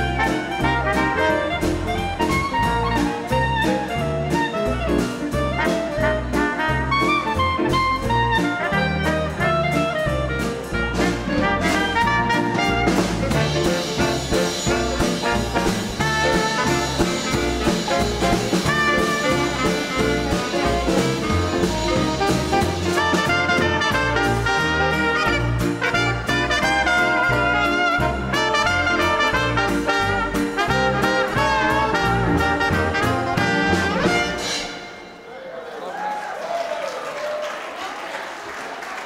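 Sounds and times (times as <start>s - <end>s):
dance orchestra playing: 0.0s - 35.7s.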